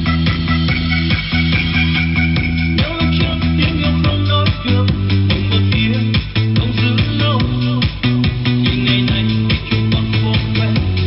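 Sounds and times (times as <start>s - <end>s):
song with guitar and bass: 0.0s - 11.0s.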